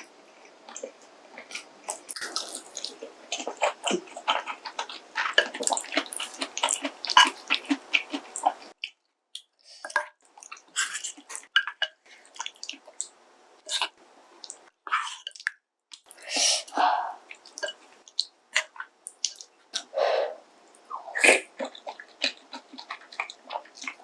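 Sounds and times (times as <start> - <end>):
wet chewing and smacking: 0.7 - 16.2, 17.2 - 19.9, 21.4 - 24.0.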